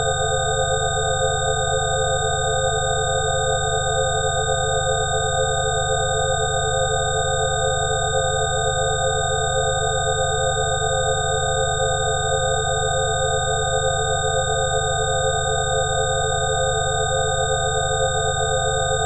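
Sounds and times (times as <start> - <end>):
sine tone drone over low hum: 0.0 - 19.0.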